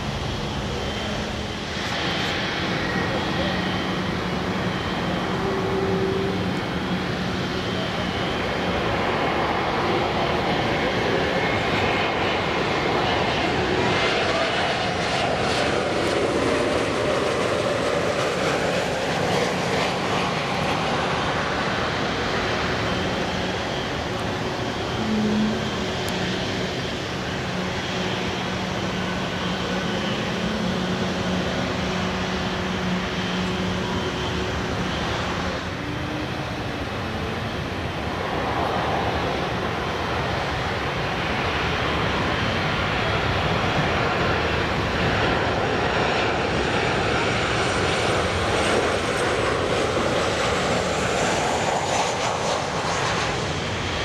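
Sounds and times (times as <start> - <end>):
jet airliner flying past: 0.0 - 54.0.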